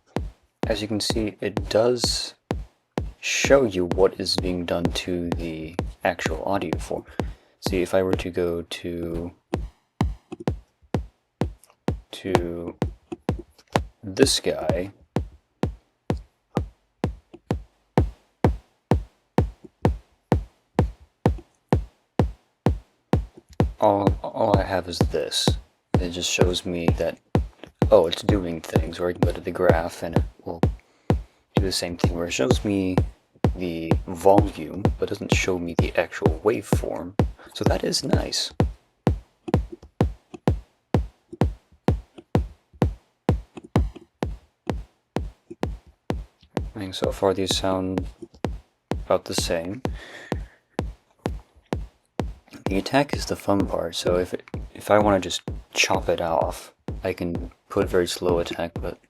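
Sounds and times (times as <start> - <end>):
electronic kick drum beat: 0.0 - 8.4, 9.2 - 59.0.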